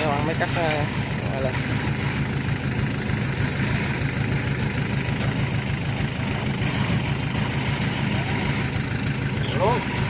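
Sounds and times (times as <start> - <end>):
diesel engines running: 0.0 - 10.0.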